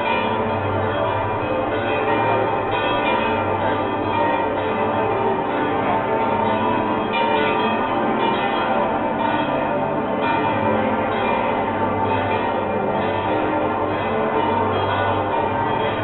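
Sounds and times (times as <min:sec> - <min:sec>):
church bells ringing a peal: 0:00.0 - 0:16.0.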